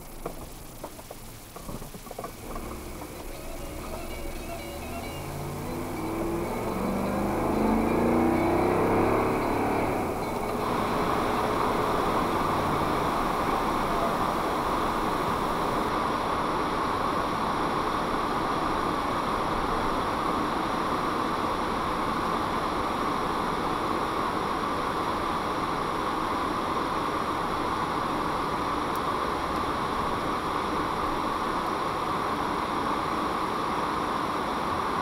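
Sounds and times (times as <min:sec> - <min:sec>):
road and tyre noise in car: 0:00.0 - 0:35.0.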